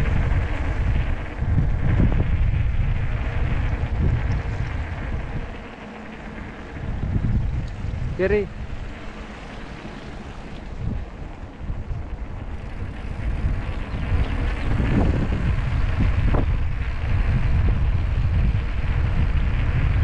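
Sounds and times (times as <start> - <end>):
road and vehicle rumble: 0.0 - 20.0
wind rushing over microphone: 0.0 - 20.0.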